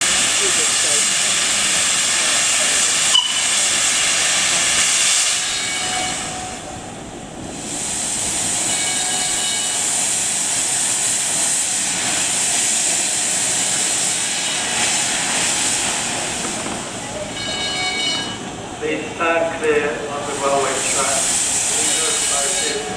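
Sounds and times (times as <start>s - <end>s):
steam locomotive hissing: 0.0s - 22.9s.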